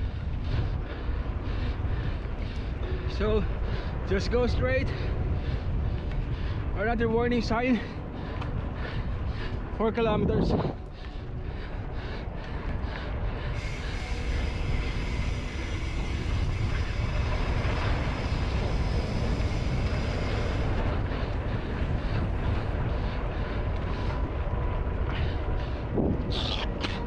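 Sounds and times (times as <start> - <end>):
bike tyre noise on trail: 0.0 - 27.0
wind buffeting microphone: 0.0 - 27.0.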